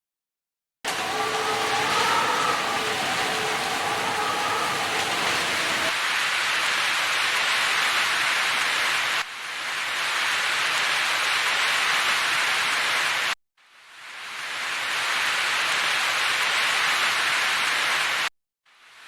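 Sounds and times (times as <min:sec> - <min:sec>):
heavy rain: 0:00.9 - 0:19.0.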